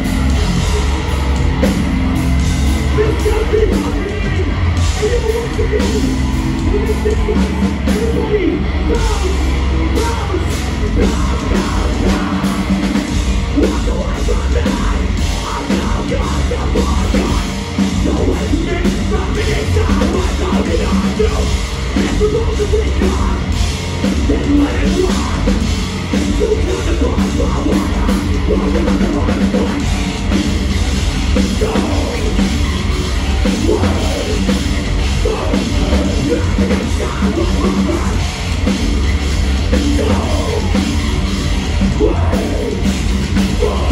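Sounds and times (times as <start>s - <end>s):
metalcore band playing live: 0.0s - 43.9s
pounding drums: 0.0s - 43.9s
vocals: 0.0s - 43.9s.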